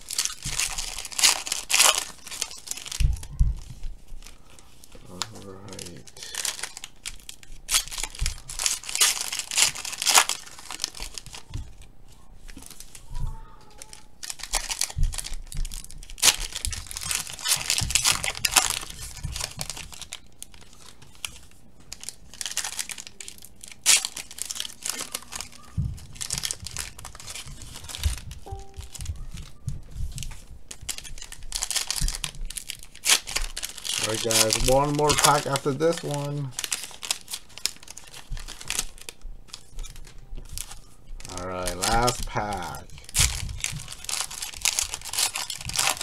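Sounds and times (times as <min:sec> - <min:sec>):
foil wrappers crinkling and tearing: 0:00.0 - 0:46.0.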